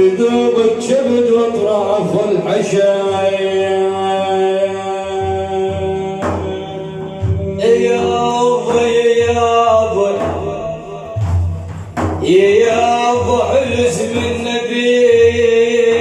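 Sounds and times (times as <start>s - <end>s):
low drum beat: 0.0s - 16.0s
men chanting long sung notes: 0.0s - 16.0s.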